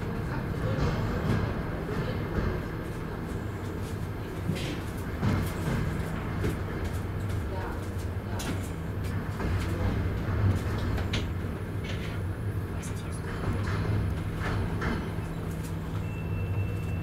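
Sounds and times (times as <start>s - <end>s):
train clicks and knocks: 0.0s - 17.0s
train rumbling and humming: 0.0s - 17.0s.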